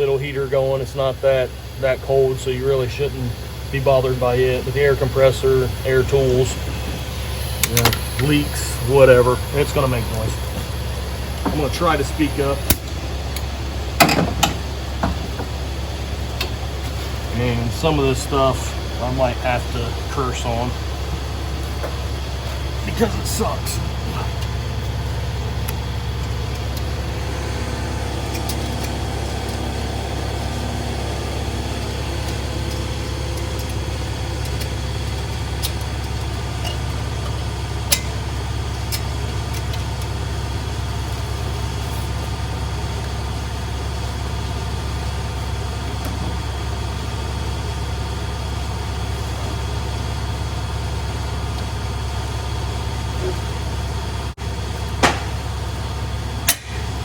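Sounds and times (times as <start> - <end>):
shop machinery drone: 0.0 - 57.0.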